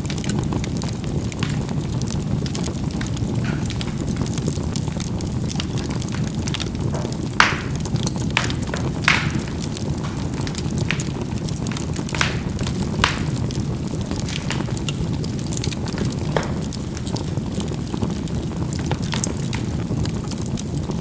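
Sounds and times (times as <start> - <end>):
coals popping and crackling: 0.0 - 21.0
fire rushing: 0.0 - 21.0.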